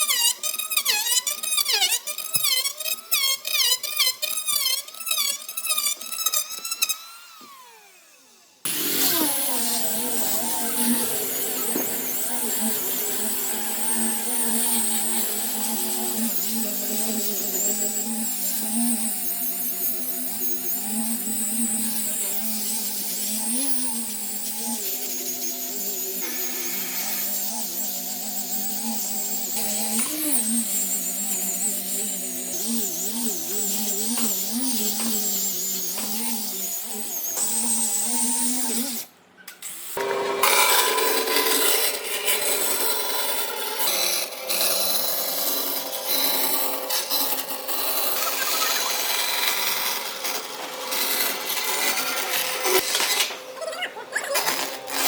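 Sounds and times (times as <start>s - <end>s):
power tool running on wood: 2.3s - 55.0s.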